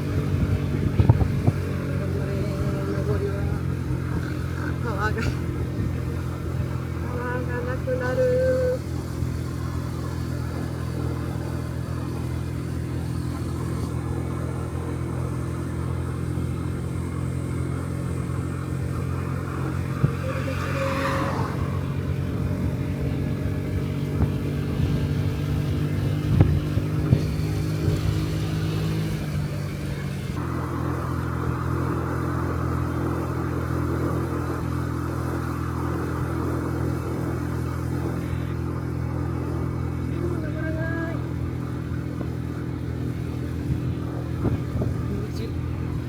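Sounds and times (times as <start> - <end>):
scooter engine running: 0.0 - 46.0.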